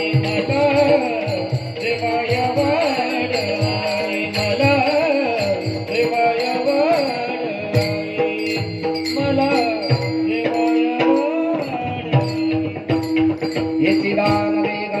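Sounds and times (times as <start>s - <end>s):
hand-drum beats: 0.0s - 15.0s
jingling cymbals or bells: 0.0s - 15.0s
person singing a melody: 0.0s - 15.0s.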